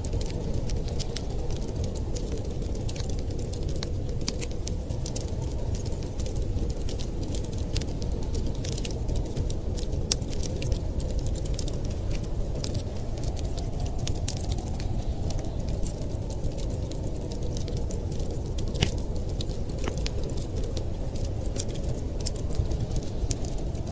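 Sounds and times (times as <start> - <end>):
fireplace fire crackling: 0.0 - 23.9
storm wind rushing: 0.0 - 23.9.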